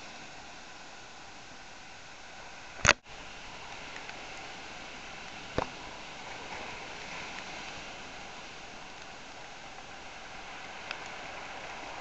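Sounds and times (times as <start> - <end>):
storm surf on rocks: 0.0 - 12.0
wind: 0.0 - 12.0.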